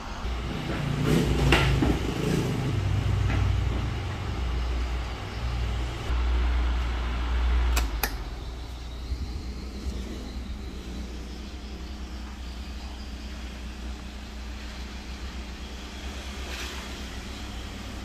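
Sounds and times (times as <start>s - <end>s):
wall fan airflow rumble: 0.0s - 18.0s.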